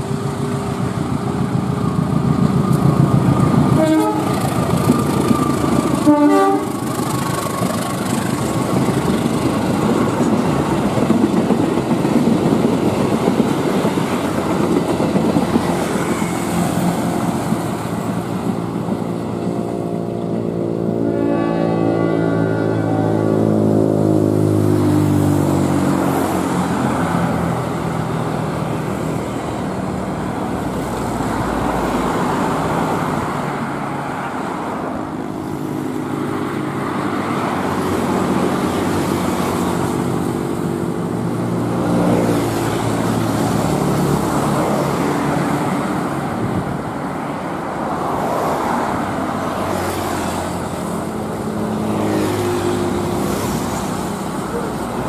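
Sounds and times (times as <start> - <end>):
scooters and cars passing: 0.0 - 55.0.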